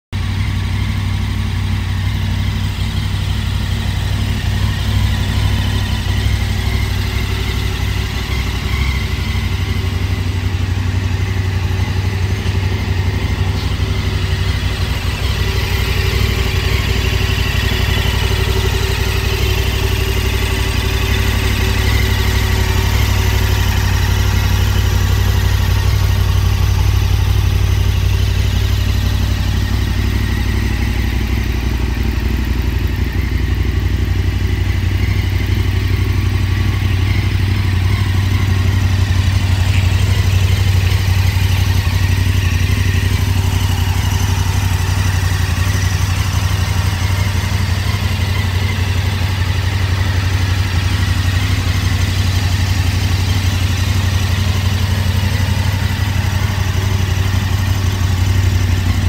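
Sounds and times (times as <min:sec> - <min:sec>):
motorcycle engine idling: 0:00.1 - 0:59.0.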